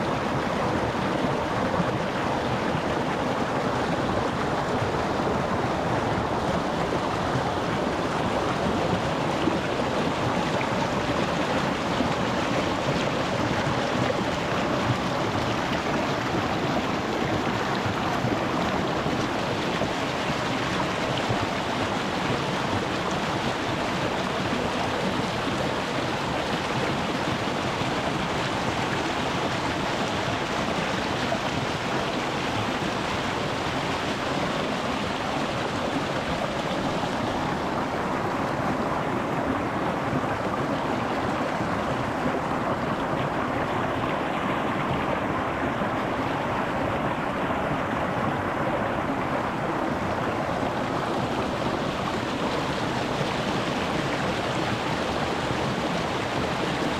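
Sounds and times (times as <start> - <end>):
stream splashing over stones: 0.1 - 56.9.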